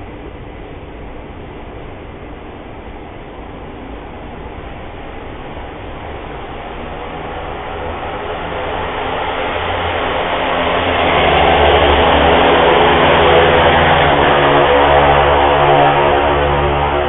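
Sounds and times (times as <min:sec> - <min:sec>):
loud mechanical drone: 0:00.0 - 0:17.0.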